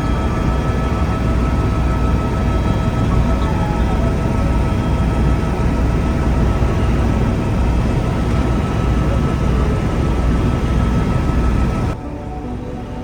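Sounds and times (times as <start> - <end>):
helicopter engine and rotors drone: 0.0 - 13.0
whining tones: 0.0 - 13.0.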